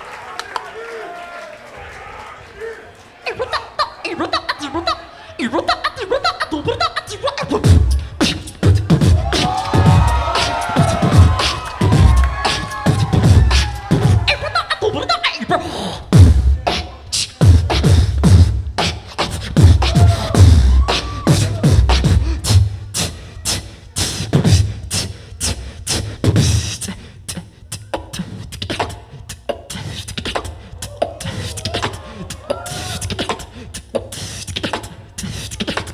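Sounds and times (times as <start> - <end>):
person beatboxing into microphone: 3.2 - 35.9.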